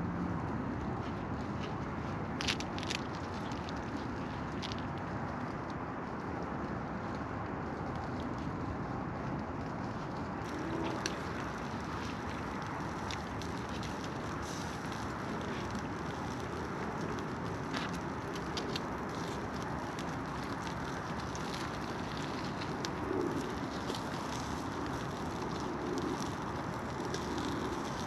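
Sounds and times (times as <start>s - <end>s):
campfire crackling: 0.0s - 28.0s
rushing background noise: 0.0s - 28.0s.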